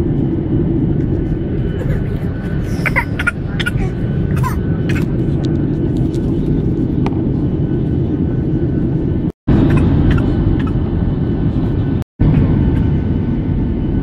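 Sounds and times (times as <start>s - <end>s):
jet airliner cabin noise: 0.0s - 14.0s.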